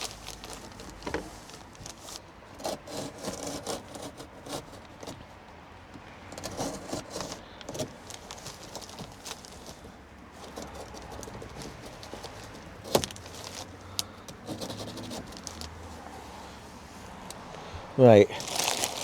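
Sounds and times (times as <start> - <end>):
small knocks and clicks: 0.0 - 16.0
knife scraping wood: 0.0 - 17.4.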